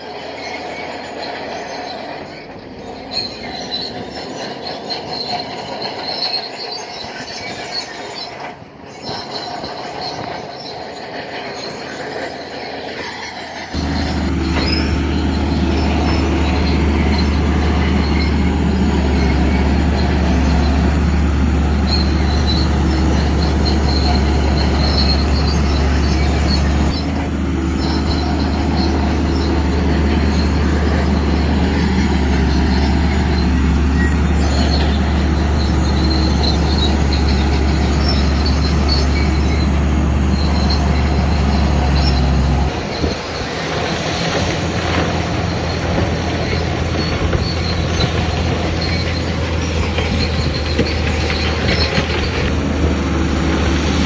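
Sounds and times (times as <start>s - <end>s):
bulldozer diesel engine: 0.0s - 54.0s
steel tracks squealing: 0.0s - 54.0s.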